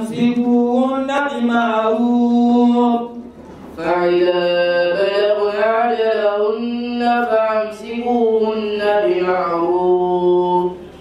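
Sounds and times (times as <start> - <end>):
boy chanting melodically: 0.0 - 11.0.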